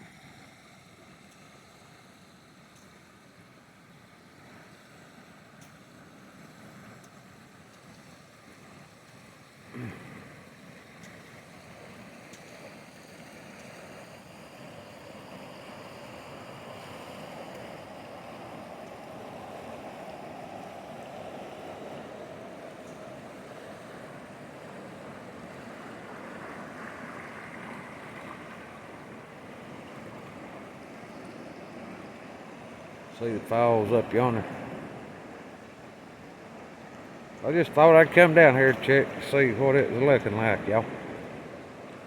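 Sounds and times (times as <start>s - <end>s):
river water rushing: 8.3s - 42.0s.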